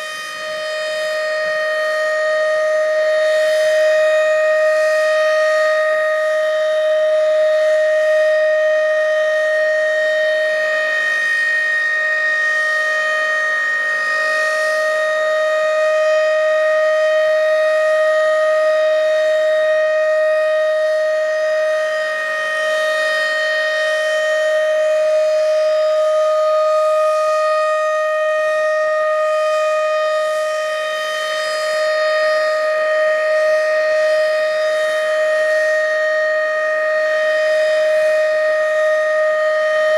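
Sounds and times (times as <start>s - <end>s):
warning siren steady pitch: 0.0s - 39.9s.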